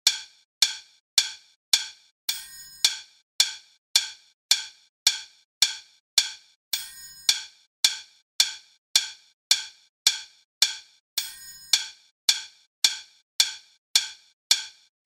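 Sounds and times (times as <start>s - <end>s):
wood-block-like clicks: 0.0s - 14.9s.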